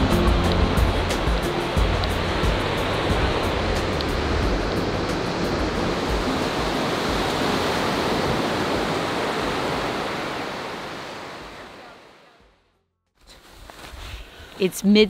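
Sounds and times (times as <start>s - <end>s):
ocean waves on beach: 0.0s - 12.6s.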